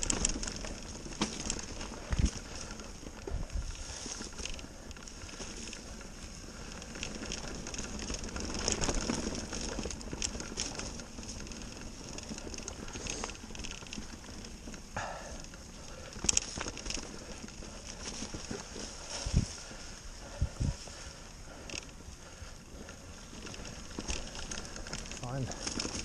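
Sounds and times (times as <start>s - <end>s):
bike clicks and knocks: 0.0s - 19.9s, 20.8s - 26.0s
bike tyres rolling over dry leaves: 0.0s - 26.0s.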